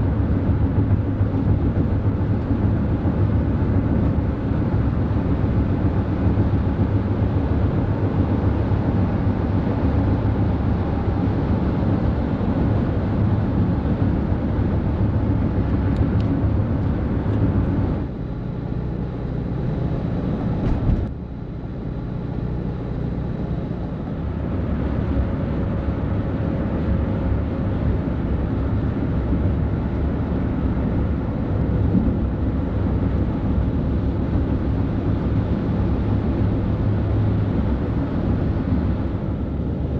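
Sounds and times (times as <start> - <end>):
diesel engine and tyre noise: 0.0 - 39.9.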